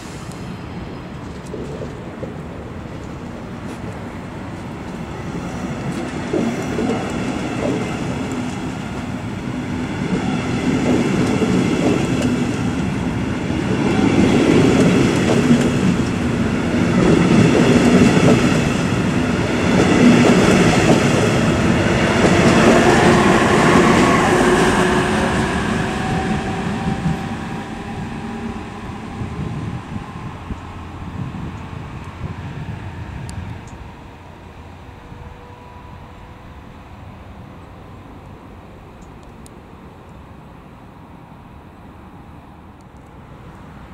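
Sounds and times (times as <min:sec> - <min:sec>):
train wheels rumbling over track: 0:00.0 - 0:43.9.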